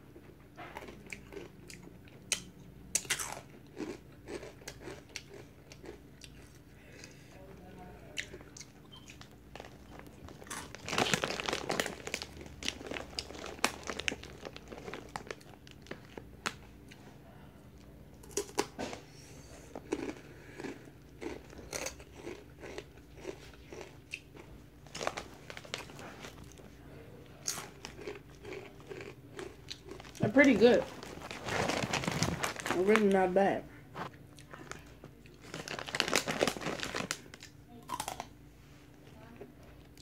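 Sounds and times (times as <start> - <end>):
person crunching chips: 0.7 - 7.2, 8.2 - 17.0, 18.2 - 18.9, 19.6 - 26.7, 27.4 - 33.4, 34.0 - 38.4.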